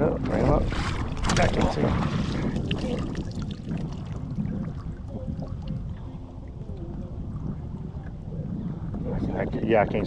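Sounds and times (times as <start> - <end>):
water lapping at a boat: 0.0 - 10.0
wind rumble on microphone: 0.0 - 10.0.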